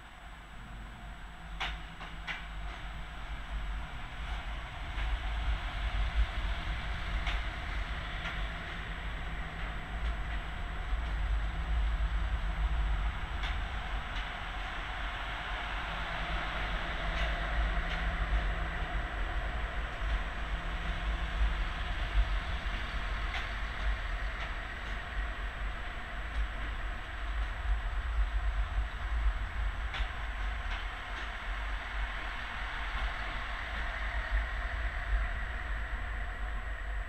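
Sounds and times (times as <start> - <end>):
train rumbling: 0.0 - 37.0
train wheels clicking: 1.6 - 36.5.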